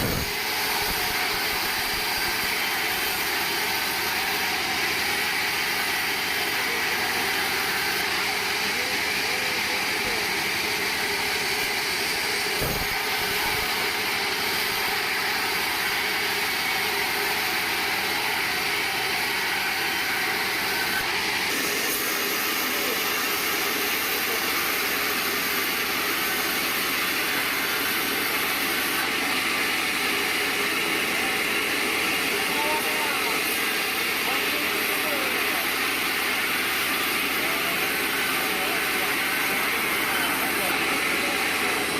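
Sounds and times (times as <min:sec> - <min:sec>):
band sawmill running: 0:00.0 - 0:41.9.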